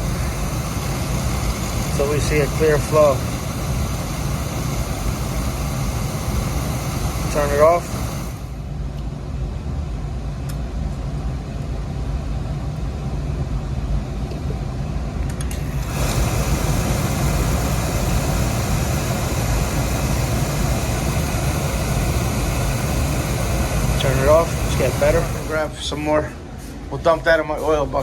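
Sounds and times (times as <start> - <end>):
boiler burner roaring: 0.0 - 28.0.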